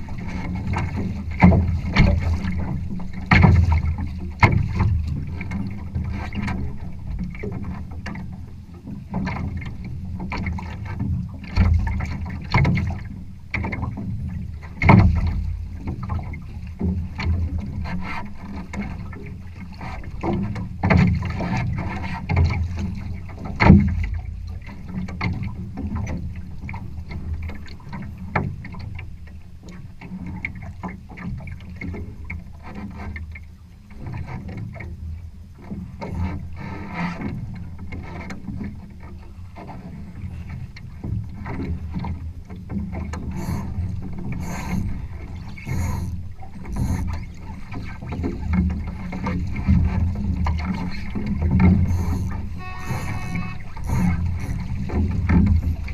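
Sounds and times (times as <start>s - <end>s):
water slapping against hull: 0.0s - 55.9s.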